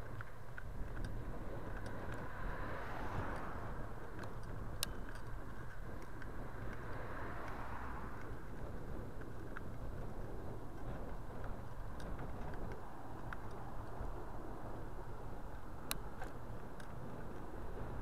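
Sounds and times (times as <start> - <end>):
cars passing: 0.0 - 18.0
road noise while cycling: 0.0 - 18.0
wind rushing over microphone: 0.0 - 18.0.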